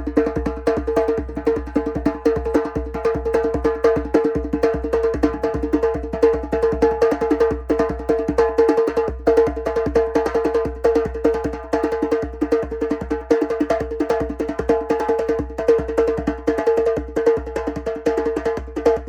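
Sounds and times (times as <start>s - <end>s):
fast percussion strokes: 0.0s - 19.0s.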